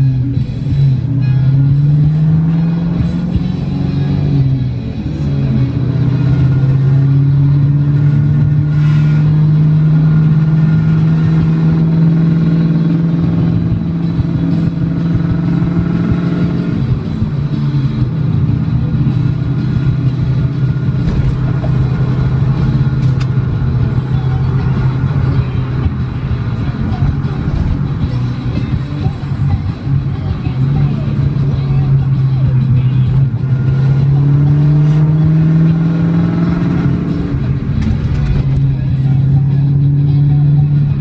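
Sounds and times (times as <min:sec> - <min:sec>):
car engine and tyre drone: 0:00.0 - 0:41.0.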